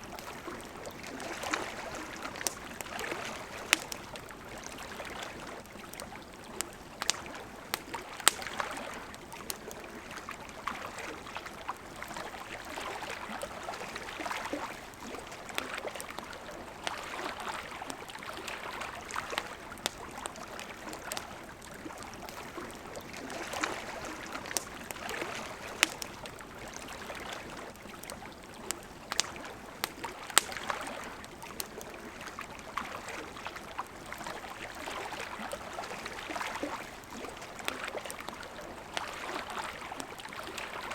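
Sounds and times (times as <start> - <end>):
campfire crackling and popping: 0.0 - 40.9
river flowing: 0.0 - 40.9.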